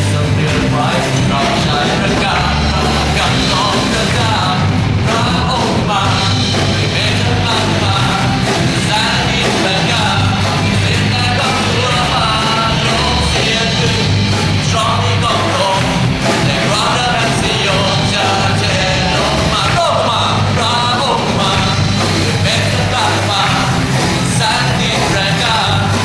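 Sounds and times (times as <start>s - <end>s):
rock band playing: 0.0s - 26.0s
voices singing: 0.0s - 26.0s.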